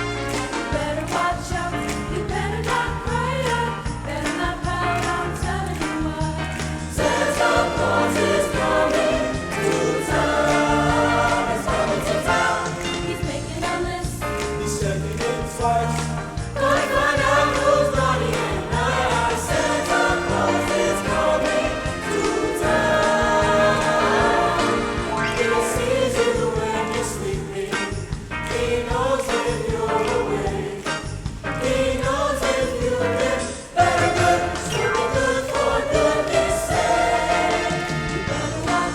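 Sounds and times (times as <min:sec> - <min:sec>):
choir singing: 0:00.0 - 0:38.9
musical accompaniment: 0:00.0 - 0:38.9.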